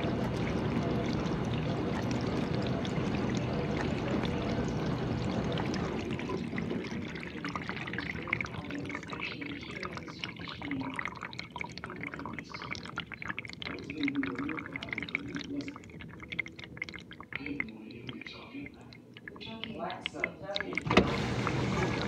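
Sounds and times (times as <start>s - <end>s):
water splashing in dishwasher: 0.0s - 22.0s.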